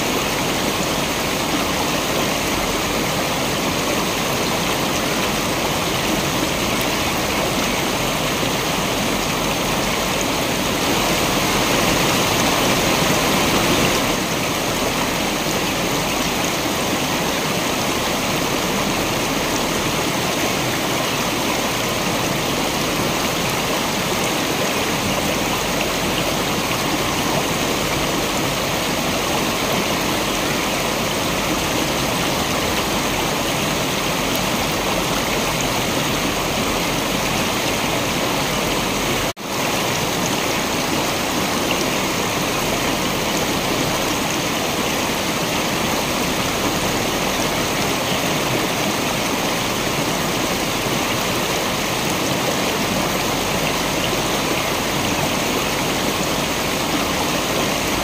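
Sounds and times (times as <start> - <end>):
waterfall rushing and splashing: 0.0 - 58.0.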